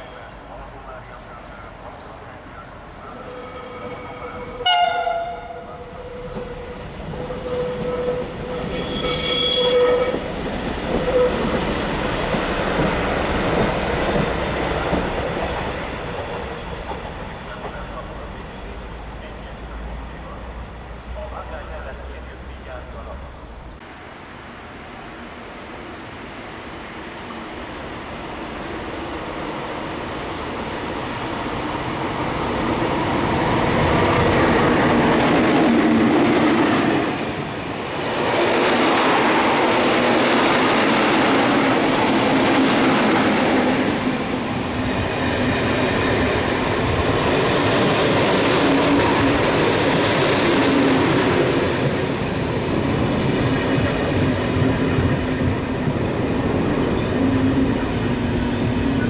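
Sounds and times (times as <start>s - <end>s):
train passing on rails: 0.0s - 59.0s.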